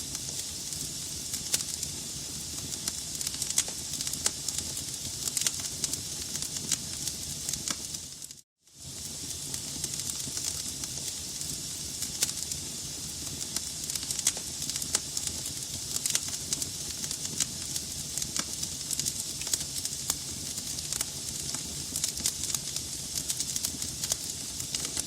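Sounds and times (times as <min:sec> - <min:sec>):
wood logs burning and crackling: 0:00.0 - 0:25.0.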